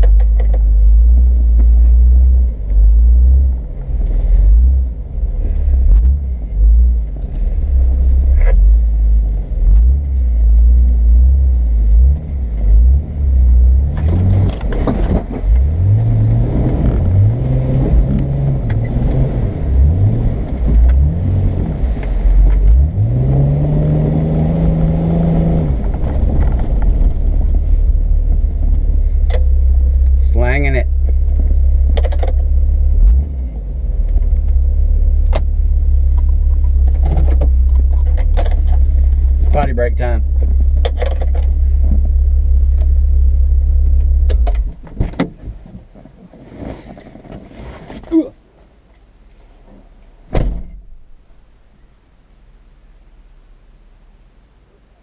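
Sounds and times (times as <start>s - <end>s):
off-road vehicle engine revving: 0.8s - 44.8s.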